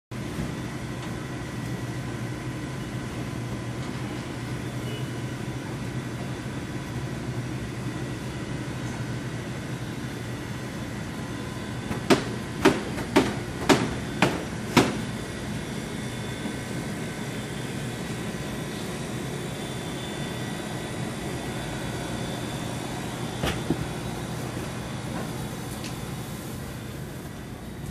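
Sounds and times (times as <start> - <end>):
ventilation hum: 0.2 - 27.9.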